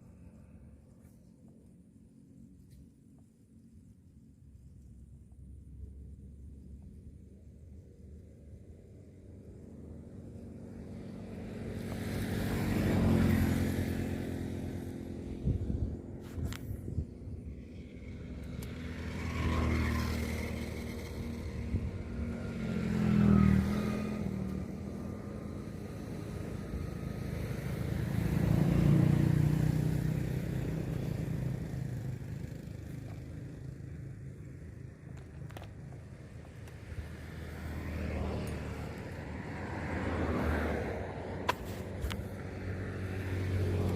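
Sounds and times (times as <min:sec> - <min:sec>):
motor vehicles passing: 0:04.8 - 0:43.9.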